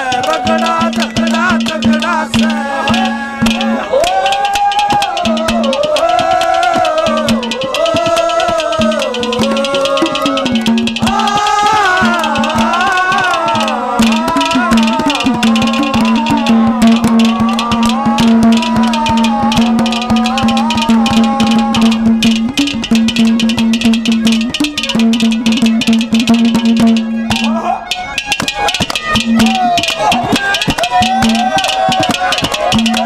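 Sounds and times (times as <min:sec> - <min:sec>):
fast hand-drum beats: 0:00.0 - 0:33.0
gliding folk melody: 0:00.0 - 0:33.0
held drone note: 0:00.0 - 0:33.0.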